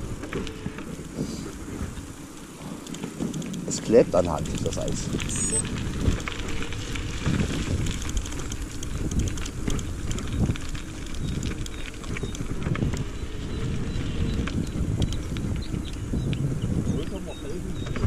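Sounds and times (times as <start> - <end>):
bicycle tyre noise: 0.0 - 18.0
bike clicks and rattles: 0.0 - 18.0
wind rumbling on microphone: 0.0 - 18.0.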